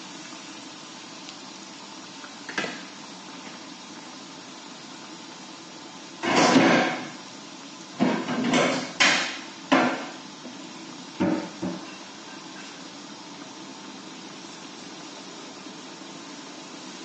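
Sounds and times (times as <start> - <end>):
food deep-frying in oil: 0.0 - 17.0.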